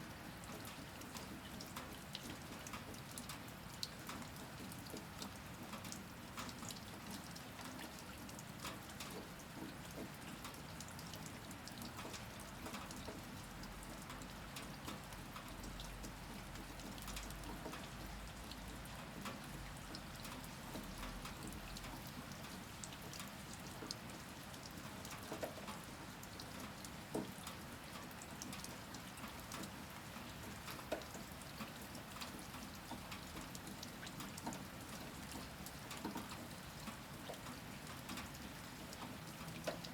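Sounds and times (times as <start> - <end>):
steady rain: 0.0 - 39.9
raindrops ticking: 0.4 - 39.9.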